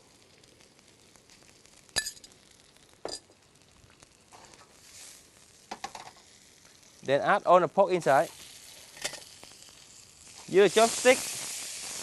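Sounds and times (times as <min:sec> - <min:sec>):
sauce sizzling in pan: 0:00.0 - 0:12.0.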